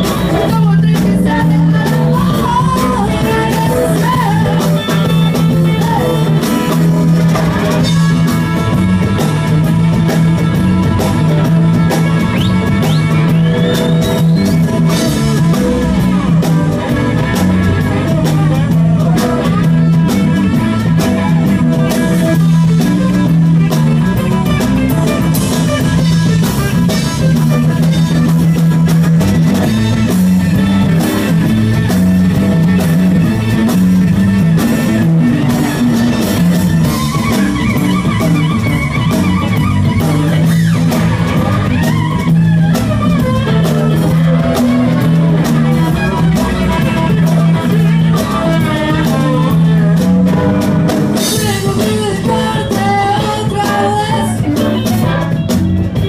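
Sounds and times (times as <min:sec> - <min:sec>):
bass: 0:00.0 - 0:56.0
drums: 0:00.0 - 0:56.0
electric guitars: 0:00.0 - 0:56.0.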